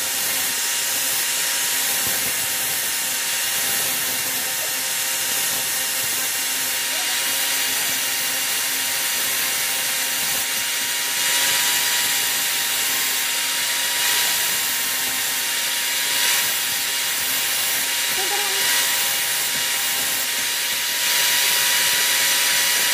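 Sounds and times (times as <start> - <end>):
angle grinder grinding steel: 0.0 - 22.9.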